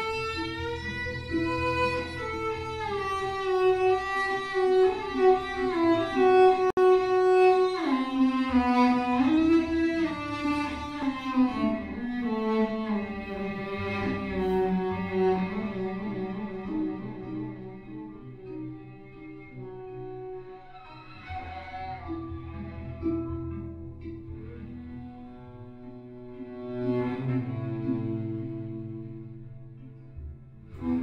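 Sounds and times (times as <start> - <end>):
bowed cello melody: 0.0 - 31.0.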